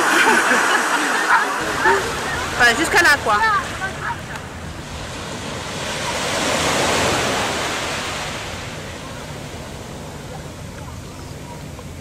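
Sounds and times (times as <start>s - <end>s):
small sea waves washing ashore: 0.0s - 12.0s.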